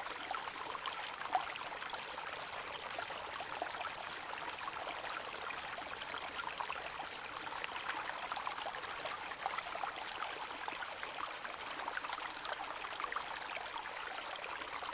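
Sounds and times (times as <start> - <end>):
brook babbling over stones: 0.0 - 14.9.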